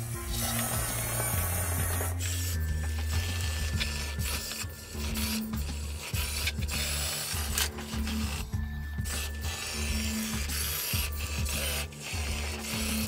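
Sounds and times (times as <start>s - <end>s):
background music with bass line: 0.0s - 13.0s
small motors whirring: 0.0s - 13.0s.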